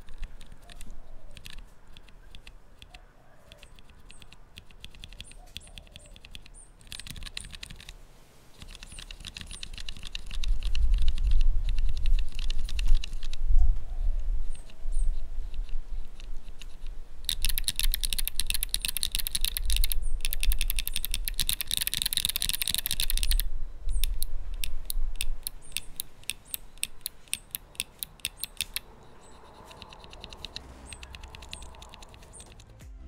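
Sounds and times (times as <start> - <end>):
keyboard typing: 0.0 - 8.0, 8.6 - 13.4, 14.5 - 32.8.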